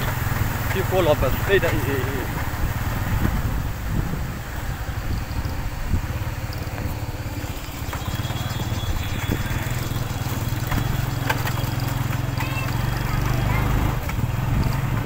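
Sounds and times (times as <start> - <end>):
motorcycle engine low speed: 0.0 - 15.0.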